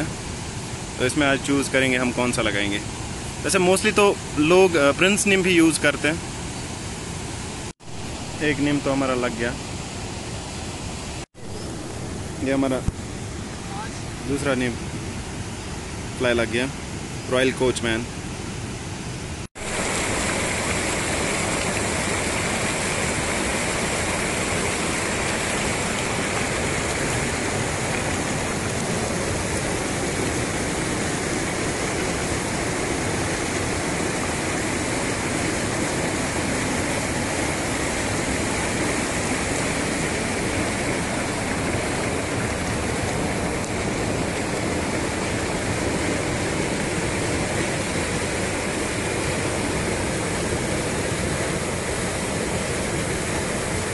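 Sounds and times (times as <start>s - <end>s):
stream rushing over boulders: 0.0s - 53.9s.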